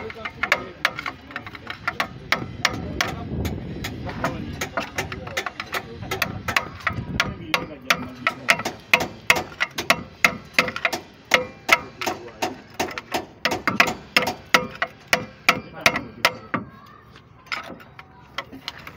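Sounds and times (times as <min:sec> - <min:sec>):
hammer striking steel punch: 0:00.0 - 0:16.6.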